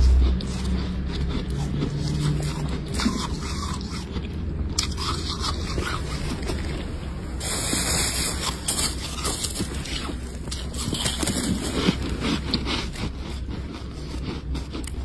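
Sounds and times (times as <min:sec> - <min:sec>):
freezer frost crunching and scraping: 0:00.0 - 0:15.0.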